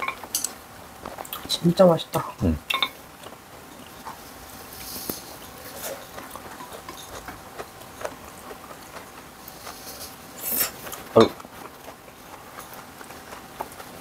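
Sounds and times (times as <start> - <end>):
chewing and wet mouth noises: 1.0 - 2.3, 3.1 - 14.0.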